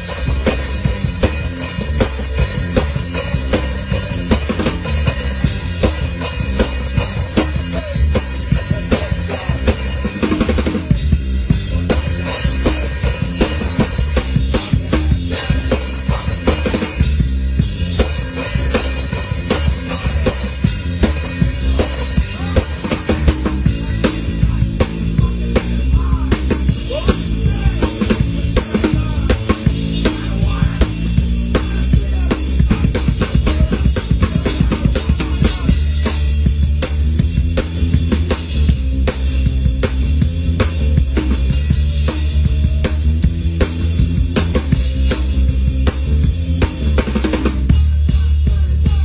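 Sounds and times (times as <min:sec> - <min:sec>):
rock band playing live: 0:00.0 - 0:49.0.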